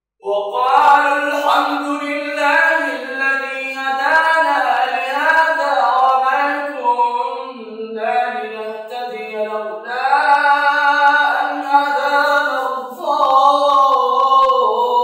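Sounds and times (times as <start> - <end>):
man chanting melodically: 0.2 - 15.0.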